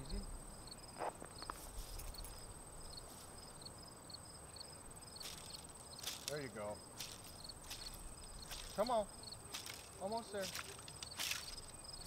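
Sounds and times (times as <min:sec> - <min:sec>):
insect chirping: 0:00.0 - 0:12.0
insects trilling: 0:00.0 - 0:12.0.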